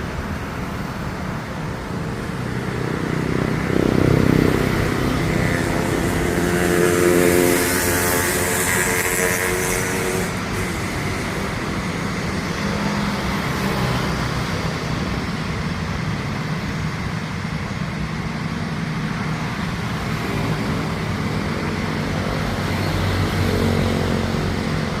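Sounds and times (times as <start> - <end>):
engine roar: 0.0 - 25.0.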